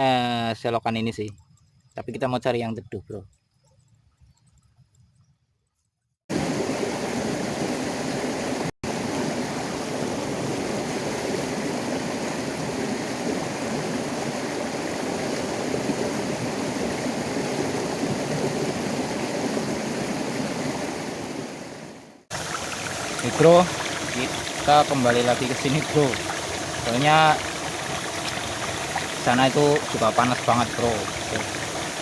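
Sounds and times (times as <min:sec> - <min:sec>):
water rushing along a ditch: 0:06.3 - 0:32.0.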